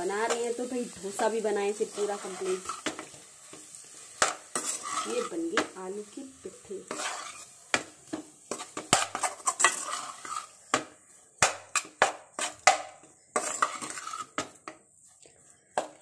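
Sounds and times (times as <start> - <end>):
metal spatula scraping a pan: 0.0 - 16.0.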